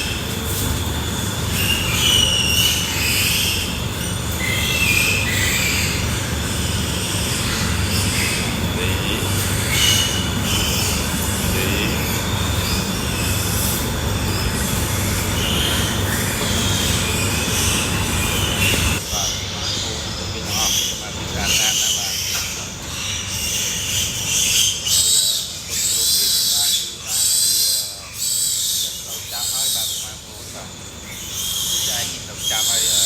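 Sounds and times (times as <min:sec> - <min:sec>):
steady noisy din: 0:00.0 - 0:27.1
pigs squealing: 0:00.0 - 0:33.0.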